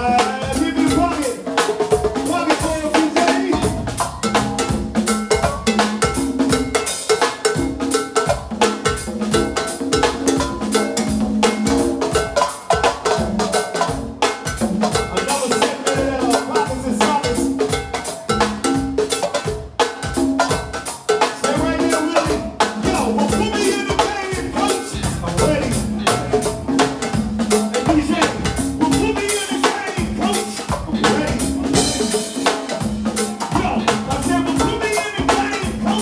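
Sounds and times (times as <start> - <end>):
congas: 0.0 - 36.0
cowbell: 0.0 - 36.0
drum kit: 0.0 - 36.0
live band groove: 0.0 - 36.0.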